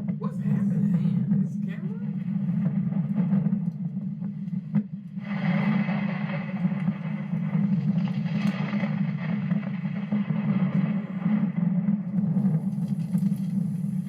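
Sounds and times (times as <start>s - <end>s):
wind and rain on microphone: 2.2s - 14.0s.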